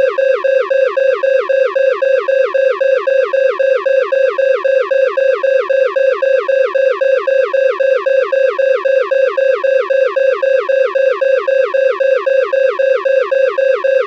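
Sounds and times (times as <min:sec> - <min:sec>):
electronic alarm tone: 0:00.0 - 0:14.0.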